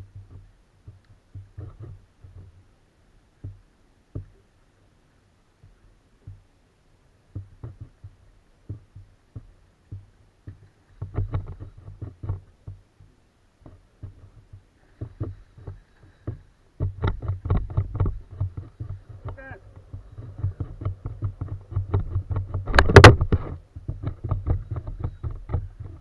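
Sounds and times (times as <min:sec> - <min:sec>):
fishing gear knocking in kayak: 0:00.0 - 0:02.6, 0:03.4 - 0:04.4, 0:05.6 - 0:06.5, 0:07.3 - 0:26.0.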